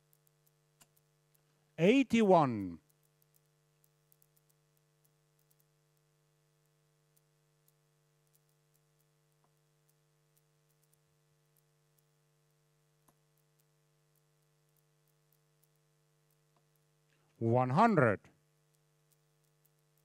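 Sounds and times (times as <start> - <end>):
faint ticks and clicks: 0.0 - 1.8, 2.8 - 17.4, 18.3 - 20.0
faint electrical hum: 0.0 - 20.0.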